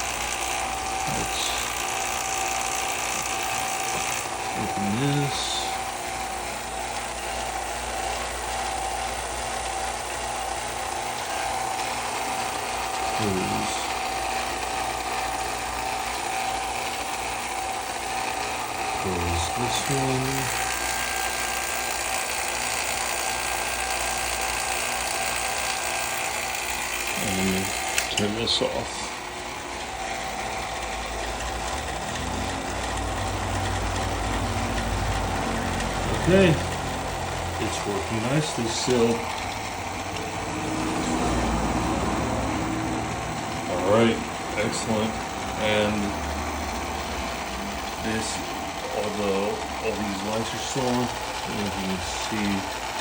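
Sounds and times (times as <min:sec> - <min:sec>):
vacuum pump running: 0:00.0 - 0:53.0.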